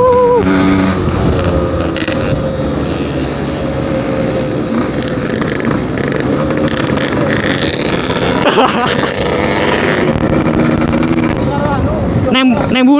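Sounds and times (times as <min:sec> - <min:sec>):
two-stroke motorcycle engine riding: 0:00.0 - 0:12.9.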